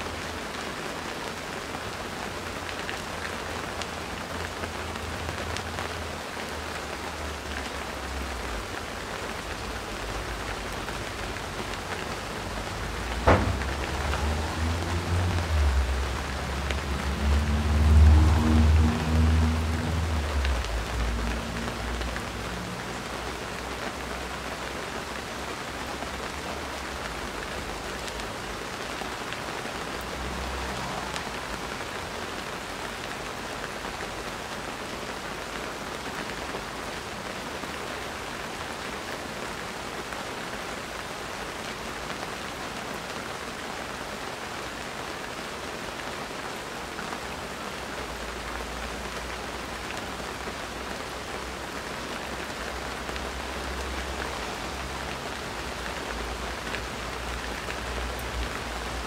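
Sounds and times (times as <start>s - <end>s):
rain on plants and plastic: 0.0s - 59.0s.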